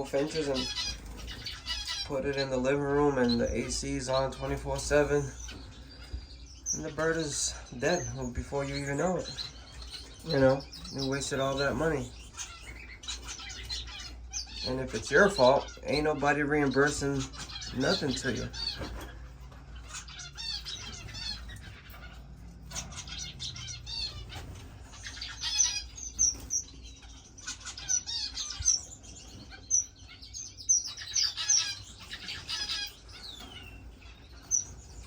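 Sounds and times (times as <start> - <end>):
finches chirping: 0.0 - 35.0.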